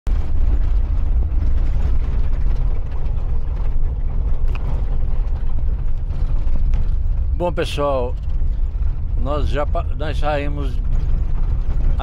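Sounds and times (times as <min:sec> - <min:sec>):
car rattling: 0:00.1 - 0:12.0
tyres rumbling on dirt road: 0:00.1 - 0:12.0.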